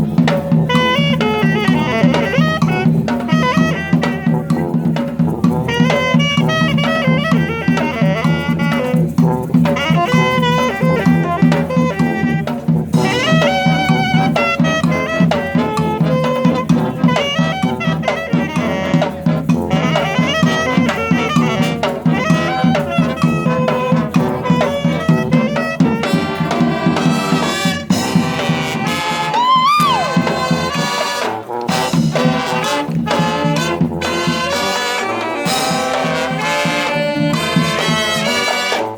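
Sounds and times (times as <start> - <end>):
brass band playing: 0.0 - 38.9
horn bending in pitch: 0.7 - 4.9, 5.6 - 38.9.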